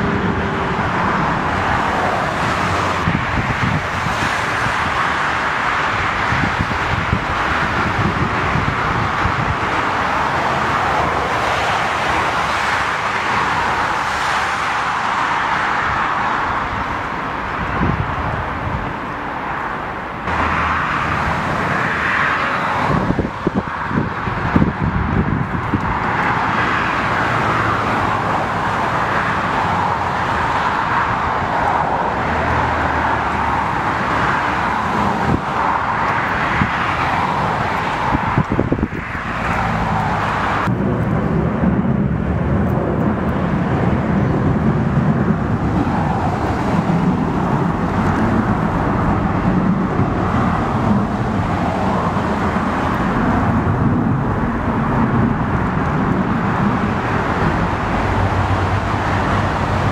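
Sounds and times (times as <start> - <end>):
jet engine rush: 0.0 - 59.9.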